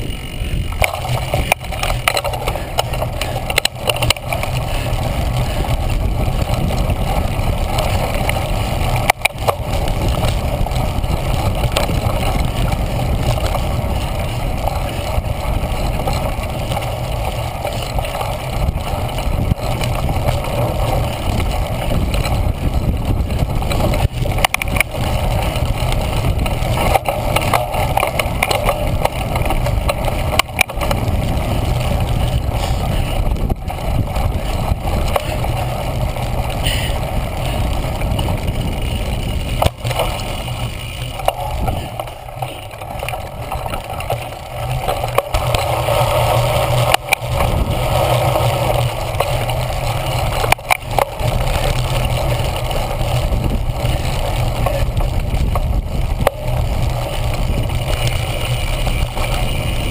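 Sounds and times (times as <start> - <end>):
bike rumbling and rattling over grass: 0.0 - 59.9.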